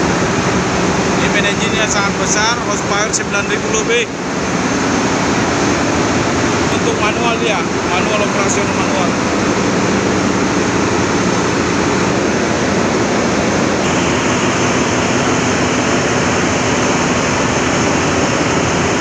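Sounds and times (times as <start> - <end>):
diesel engine room machinery: 0.0 - 19.0
steady machine hum: 0.0 - 19.0.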